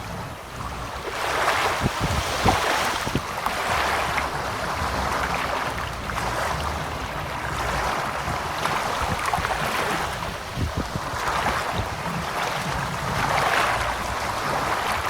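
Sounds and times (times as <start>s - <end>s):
ocean waves surging: 0.0s - 15.0s.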